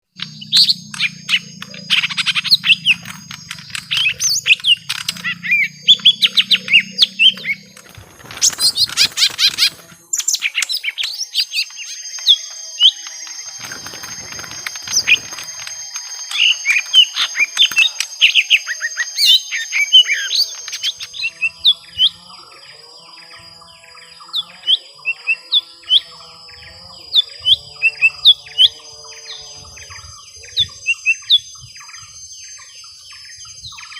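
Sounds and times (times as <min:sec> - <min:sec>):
birds chirping and chattering: 0:00.1 - 0:33.9.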